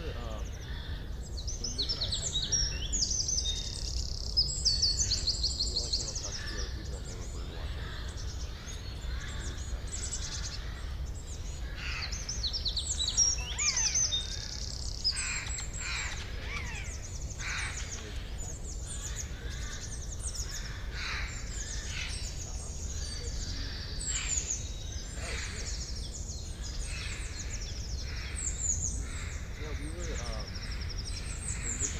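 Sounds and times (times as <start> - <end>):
birds chirping and singing: 0.0 - 31.9
harsh bird calls: 0.0 - 31.9.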